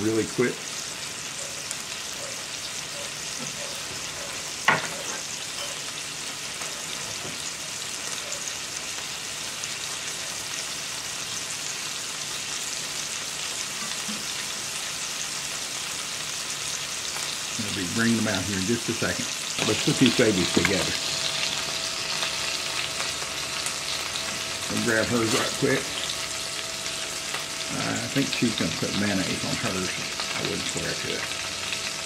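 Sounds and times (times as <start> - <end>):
burger patties sizzling in skillets: 0.0 - 32.0.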